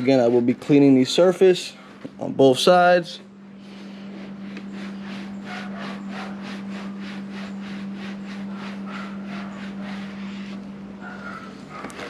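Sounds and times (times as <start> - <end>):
cloth wiping metal tank: 0.0 - 1.2, 3.6 - 12.0
steady low hum: 0.0 - 12.0.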